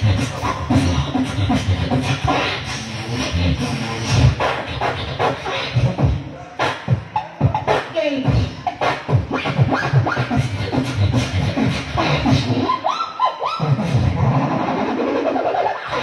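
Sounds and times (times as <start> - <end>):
boy beatboxing: 0.0 - 16.0
upward-gliding beatbox sounds: 0.0 - 16.0.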